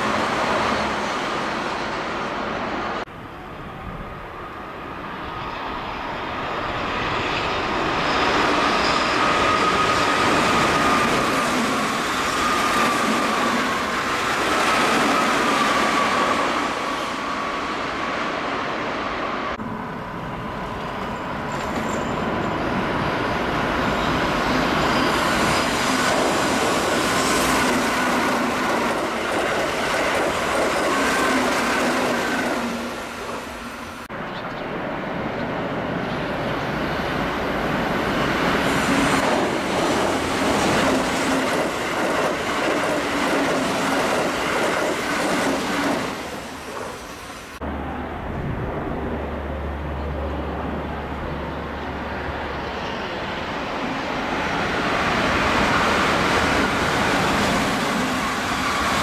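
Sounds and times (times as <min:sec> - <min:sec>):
trains passing at speed: 0:00.0 - 0:59.0.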